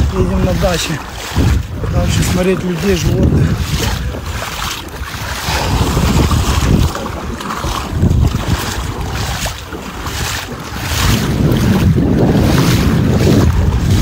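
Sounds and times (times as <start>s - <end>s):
rushing water: 0.0s - 14.0s
wind buffeting microphone: 0.0s - 14.0s.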